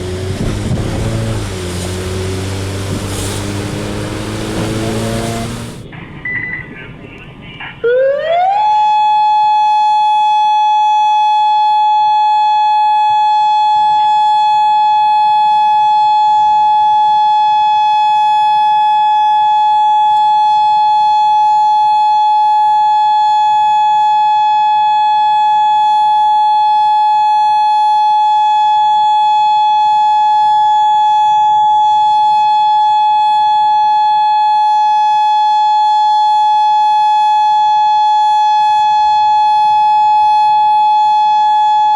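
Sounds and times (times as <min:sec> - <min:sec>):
tornado warning siren: 0:00.0 - 0:05.8, 0:07.8 - 0:41.9.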